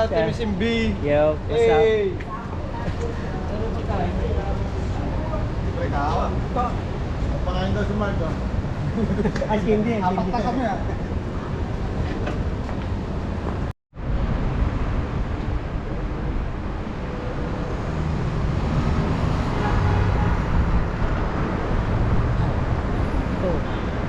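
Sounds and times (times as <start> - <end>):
road traffic noise: 0.0 - 24.0
wind rushing over microphone: 4.4 - 24.0.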